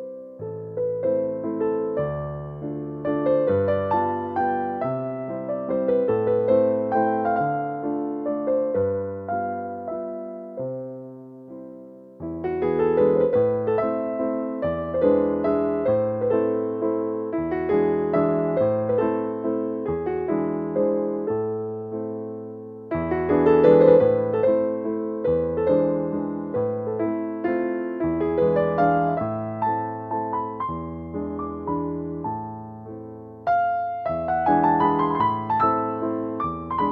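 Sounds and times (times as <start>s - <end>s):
gentle piano melody: 0.0s - 36.9s.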